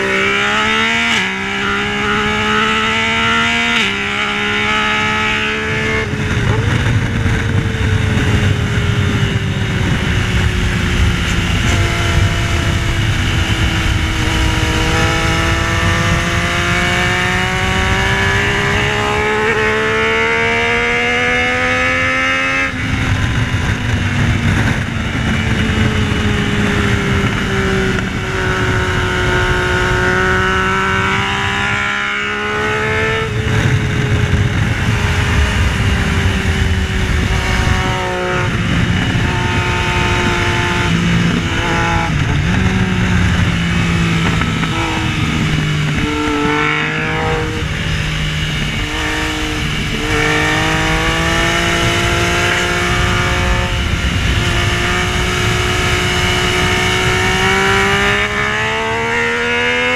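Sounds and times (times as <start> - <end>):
motorcycle engine revving: 0.0 - 59.9
steady rushing noise: 0.0 - 59.9.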